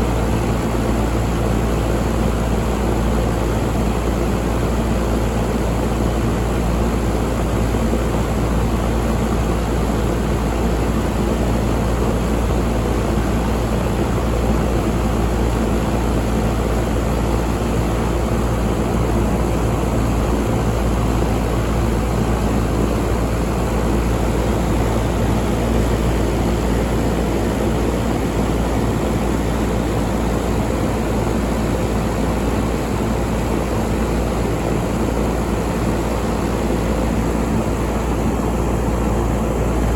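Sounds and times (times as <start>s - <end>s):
air conditioner fan humming: 0.0s - 39.9s.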